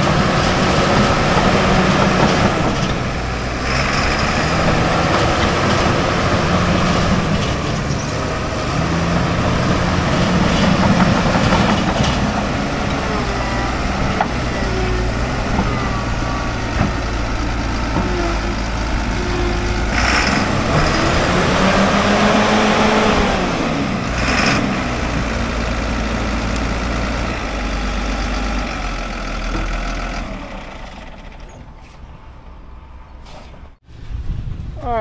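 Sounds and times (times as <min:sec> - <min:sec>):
diesel engine running: 0:00.0 - 0:33.8.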